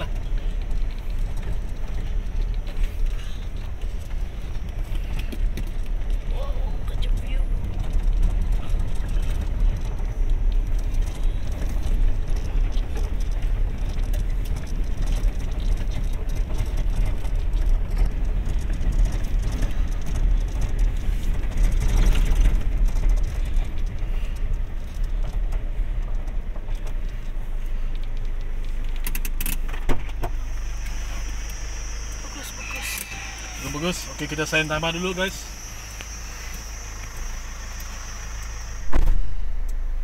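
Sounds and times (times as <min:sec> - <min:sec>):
vehicle rumbling on gravel road: 0:00.0 - 0:40.0.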